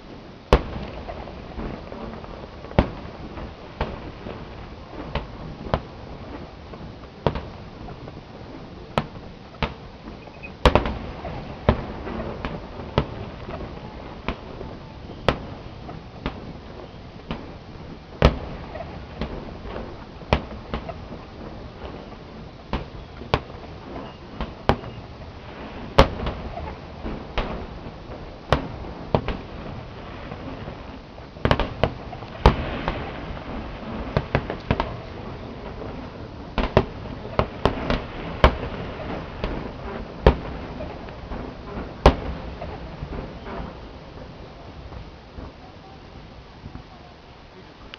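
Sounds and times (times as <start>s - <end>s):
firework shells bursting: 0.0s - 47.0s
background rumble and crackle: 0.0s - 47.9s.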